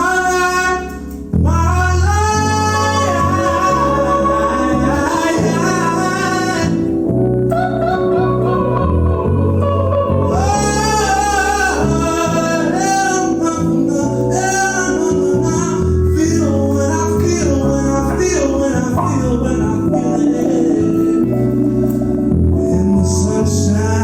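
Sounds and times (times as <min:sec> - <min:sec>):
person singing: 0:00.0 - 0:24.0.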